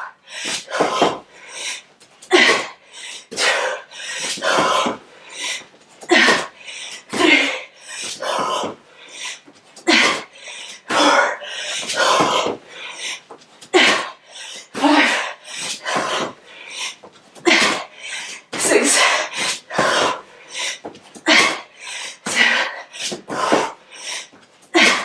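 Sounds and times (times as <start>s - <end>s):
woman breathing hard: 0.0s - 25.0s.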